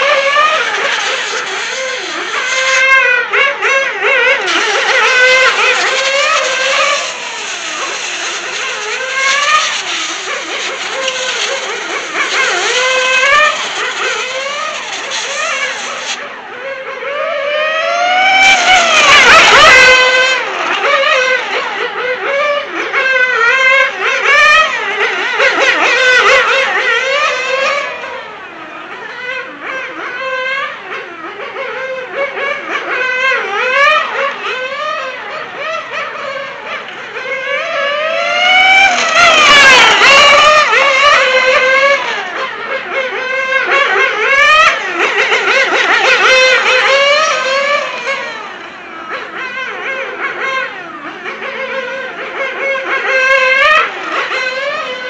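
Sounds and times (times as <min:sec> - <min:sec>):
rc car engine revving: 0:00.0 - 0:55.0.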